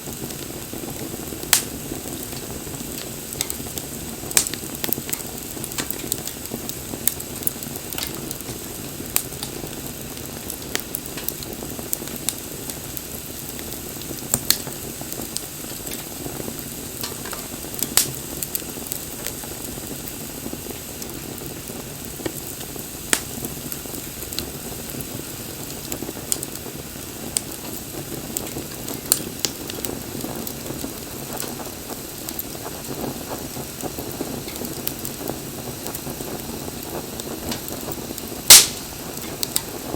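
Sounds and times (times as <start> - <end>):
campfire crackling and hissing: 0.0 - 39.9
sharp fire pops: 0.0 - 39.9.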